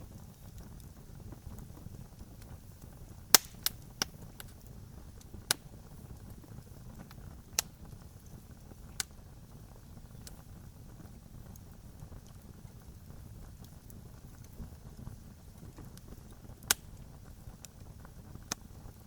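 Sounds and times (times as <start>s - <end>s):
campfire popping and snapping: 0.0s - 19.0s
fire rumbling: 0.0s - 19.0s.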